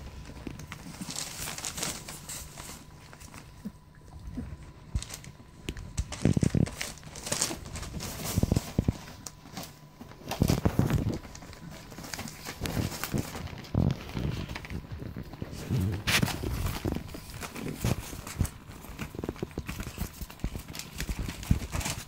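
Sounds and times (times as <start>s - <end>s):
puppies scuffling: 0.0s - 22.0s
rustling: 0.0s - 22.0s.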